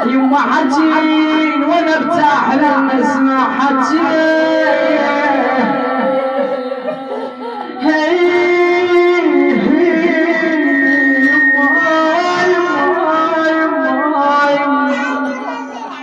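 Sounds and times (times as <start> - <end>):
woman chanting a lament: 0.0 - 16.0.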